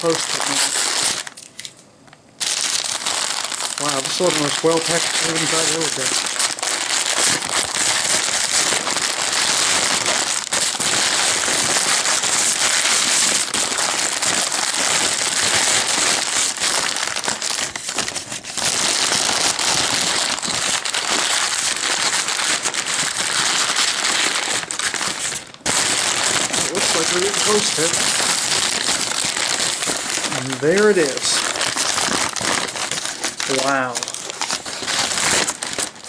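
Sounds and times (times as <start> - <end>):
packing material crinkling: 0.0 - 1.8, 2.4 - 36.0.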